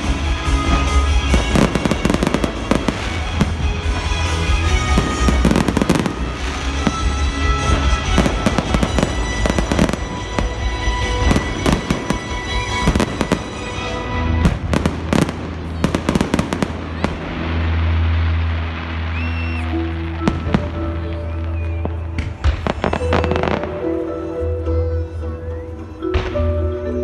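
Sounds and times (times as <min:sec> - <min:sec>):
fireworks bursting and crackling: 0:00.0 - 0:24.0
music playing: 0:00.0 - 0:27.0.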